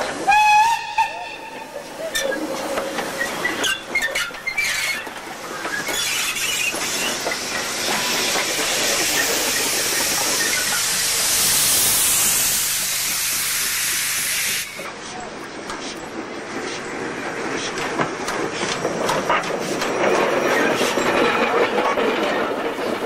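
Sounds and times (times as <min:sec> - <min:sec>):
steam locomotive hissing steam: 0:00.0 - 0:23.0.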